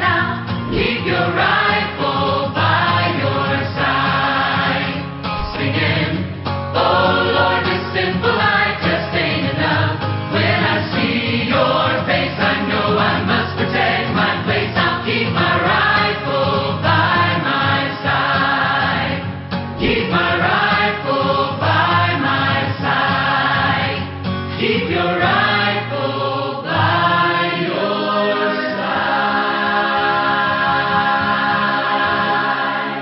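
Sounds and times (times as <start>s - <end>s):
choir singing: 0.0s - 33.0s.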